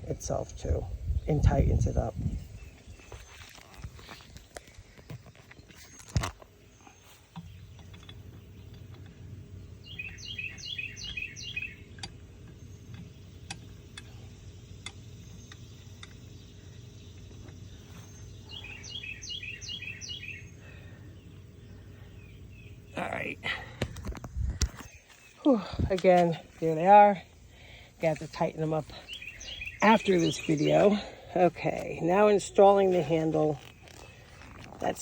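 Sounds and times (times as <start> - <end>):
low outdoor rumble: 0.0 - 35.0
songbird singing: 0.0 - 35.0.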